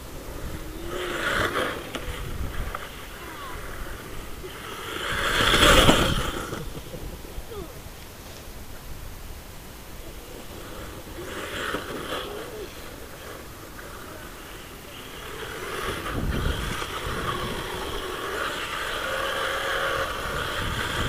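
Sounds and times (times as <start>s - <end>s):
electric motor whine: 0.0s - 8.8s, 9.6s - 21.0s
tyre noise: 0.0s - 21.0s.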